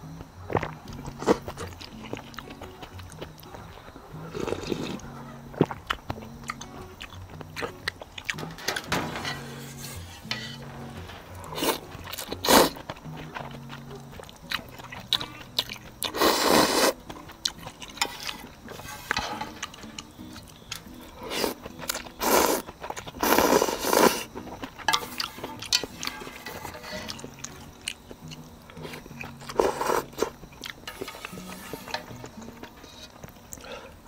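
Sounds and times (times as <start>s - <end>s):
crunchy chewing: 0.0s - 34.0s
soft background music: 0.0s - 34.0s.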